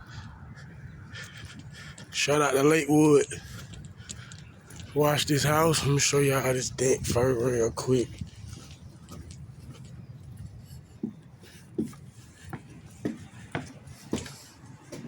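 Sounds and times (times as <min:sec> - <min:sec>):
soft footsteps: 0:00.0 - 0:15.0.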